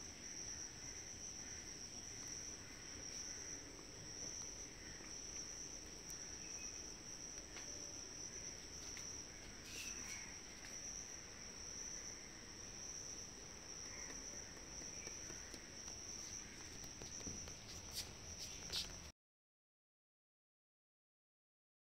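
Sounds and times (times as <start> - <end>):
insects trilling: 0.0 - 19.1.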